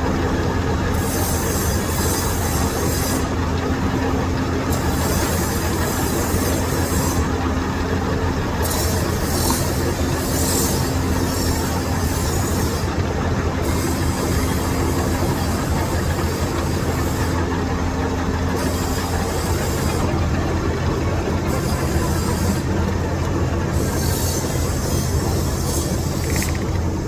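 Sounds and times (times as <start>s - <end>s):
lathe machine hum: 0.0s - 27.0s.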